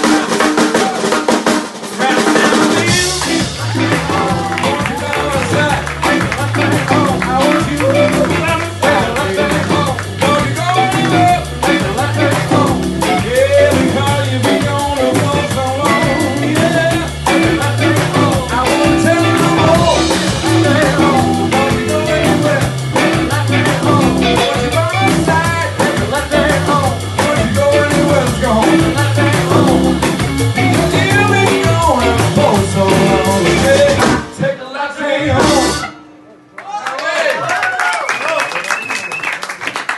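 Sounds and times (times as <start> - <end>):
live soul band playing: 0.0 - 34.6, 35.2 - 36.5
person singing: 2.0 - 36.0.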